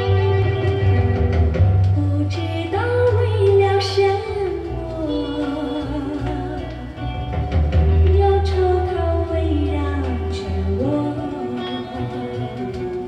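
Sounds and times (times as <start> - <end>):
song from a vinyl record: 0.0 - 13.0.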